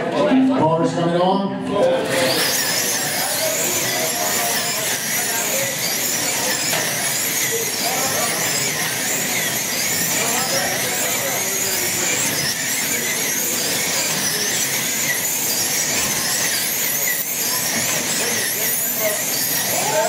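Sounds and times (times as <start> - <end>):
slot car motors whining: 1.6 - 20.0.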